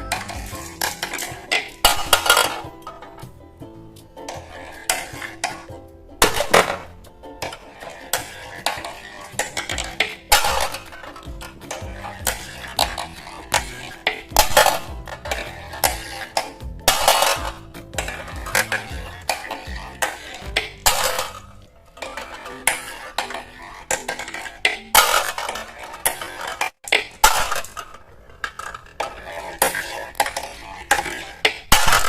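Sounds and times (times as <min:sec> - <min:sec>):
marbles clattering on plastic track: 0:00.0 - 0:03.4, 0:04.2 - 0:32.0.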